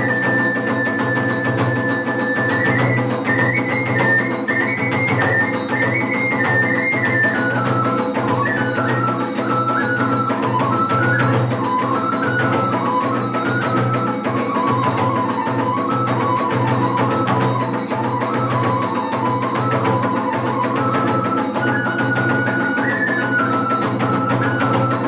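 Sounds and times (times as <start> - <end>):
traditional music with high melody: 0.0 - 25.0.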